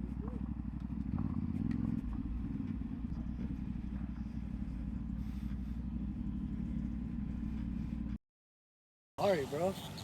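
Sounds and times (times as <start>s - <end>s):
motorcycle engine at low revs: 0.0s - 8.2s.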